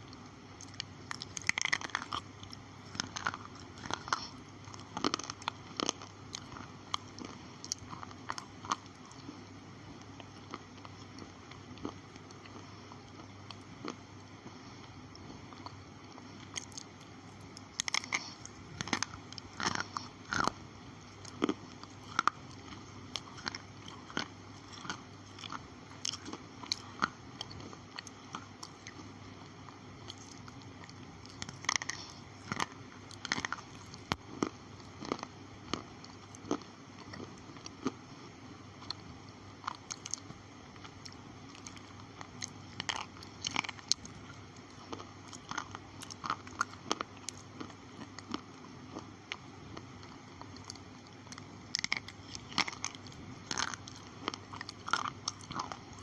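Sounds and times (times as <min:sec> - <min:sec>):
person chewing slate pencils: 0:00.0 - 0:38.0, 0:38.8 - 0:56.0.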